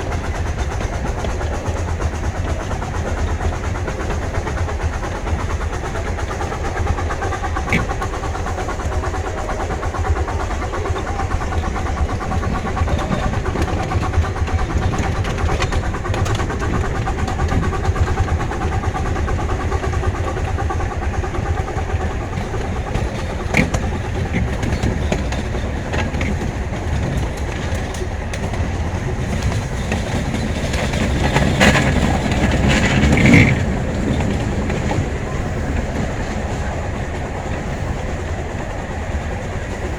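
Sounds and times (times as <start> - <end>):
sharp track clicks: 0.0 - 39.9
steam hissing: 0.0 - 39.9
steam train rumbling on track: 0.0 - 39.9.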